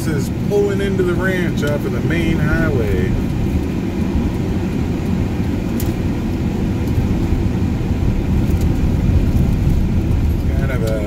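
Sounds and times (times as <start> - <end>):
vehicle engine and tyres rumbling: 0.0 - 11.0.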